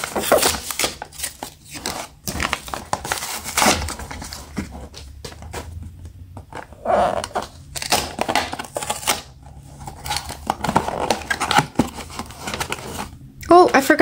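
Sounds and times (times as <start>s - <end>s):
cardboard rustling and crinkling: 0.0s - 14.0s.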